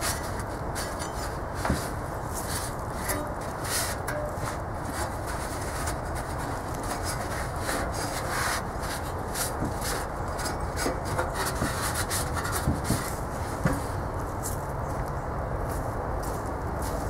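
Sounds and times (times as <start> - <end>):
cloth rubbing on sheet metal: 0.0 - 14.0.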